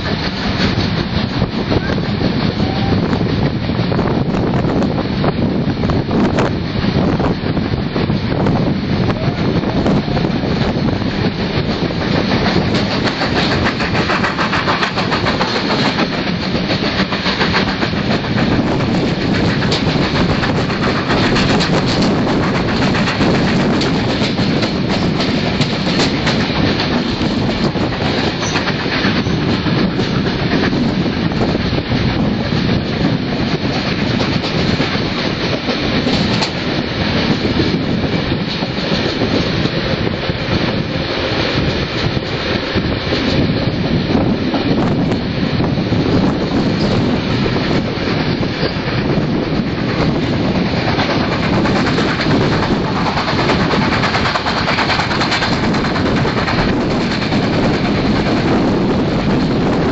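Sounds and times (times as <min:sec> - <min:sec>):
train carriage rolling: 0:00.0 - 0:59.9
wheels clicking over rails: 0:10.8 - 0:43.6, 0:44.5 - 0:59.9.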